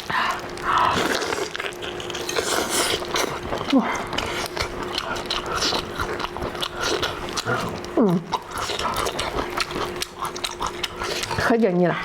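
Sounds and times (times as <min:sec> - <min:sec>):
crunchy food chewing: 0:00.0 - 0:11.7.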